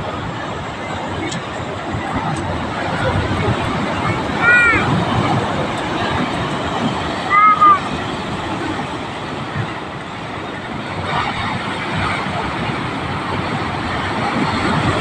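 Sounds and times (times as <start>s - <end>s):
sea waves breaking on shore: 0.0s - 15.0s.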